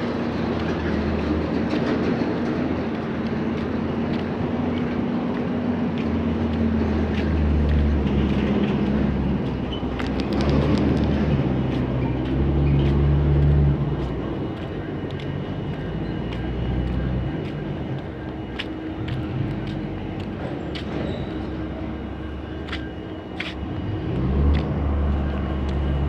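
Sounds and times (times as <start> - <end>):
heavy vehicle engine rumbling: 0.0 - 26.0.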